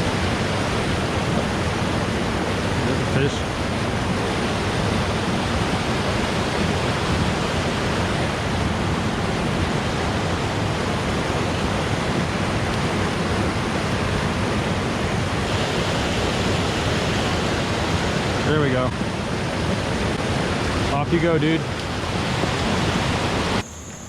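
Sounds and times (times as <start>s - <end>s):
river water pouring over a dam: 0.0s - 23.6s.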